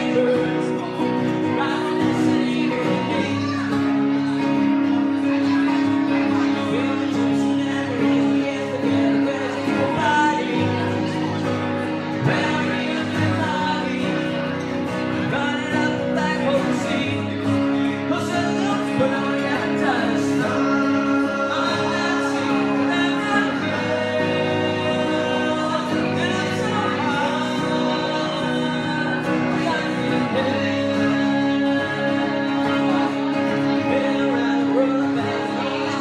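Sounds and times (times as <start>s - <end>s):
electric guitar: 0.0s - 36.0s
man singing: 0.0s - 36.0s
strummed acoustic guitar: 0.0s - 36.0s.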